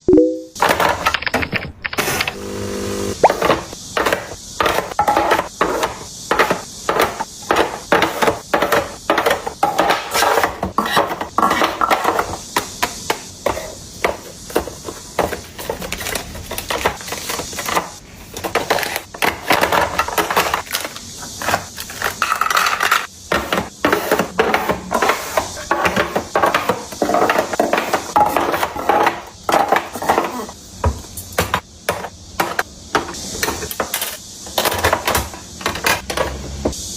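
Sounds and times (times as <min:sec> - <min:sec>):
containers tapping and clinking: 0:03.2 - 0:36.4.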